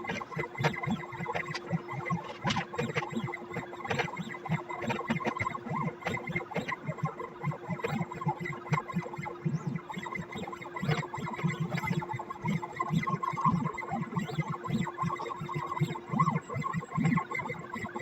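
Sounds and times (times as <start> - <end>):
stepper motors pulsing and clicking: 0.0 - 18.0.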